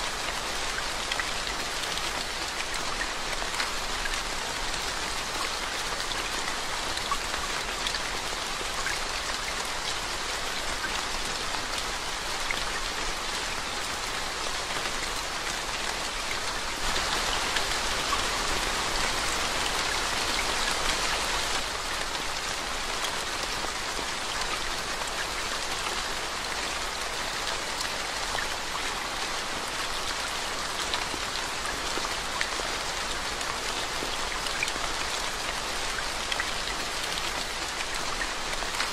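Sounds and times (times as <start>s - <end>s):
rain splashing into puddles: 0.0s - 38.9s.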